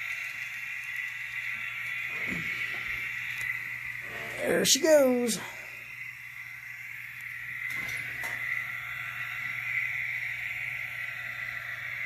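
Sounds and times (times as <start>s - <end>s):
diesel engine drone from small speaker: 0.0s - 12.0s.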